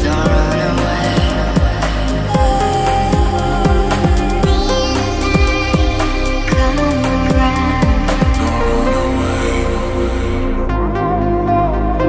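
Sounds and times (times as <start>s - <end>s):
sustained synth tones: 0.0s - 12.0s.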